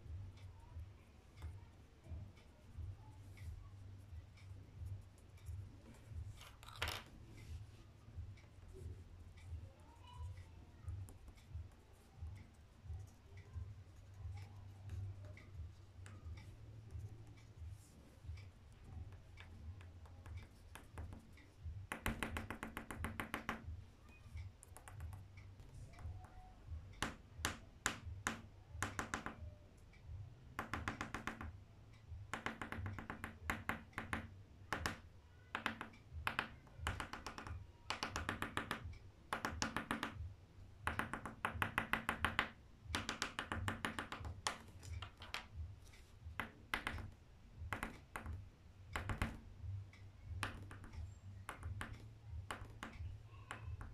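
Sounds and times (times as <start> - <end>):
pencil tapping on paper: 1.4 - 29.5, 30.5 - 31.6, 32.2 - 49.6, 50.3 - 53.9.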